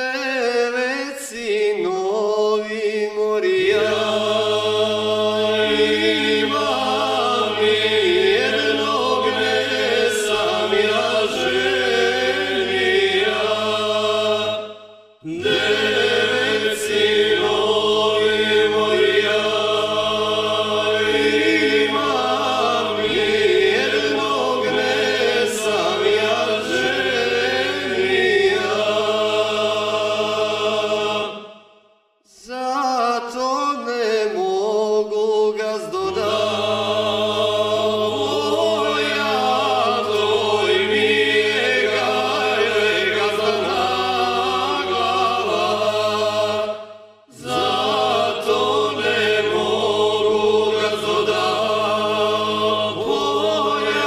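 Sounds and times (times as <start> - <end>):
choral chanting: 0.0 - 54.0.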